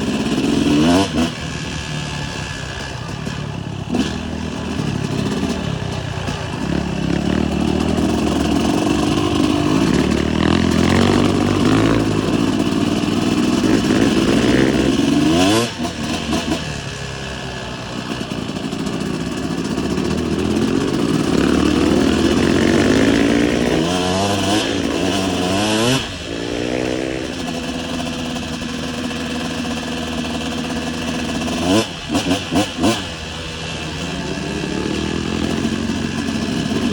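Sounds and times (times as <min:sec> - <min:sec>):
motocross bike engine revving: 0:00.0 - 0:36.9.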